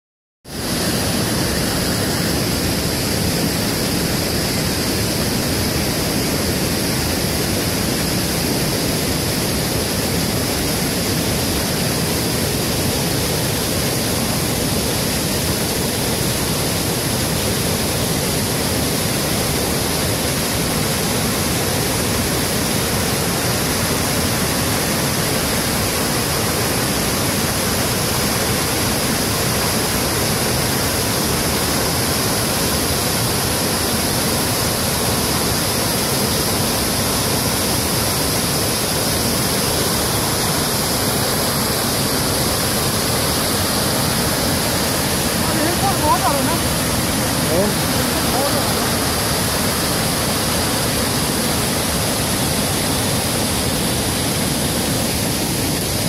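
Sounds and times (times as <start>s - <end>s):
river water rushing: 0.5s - 56.0s.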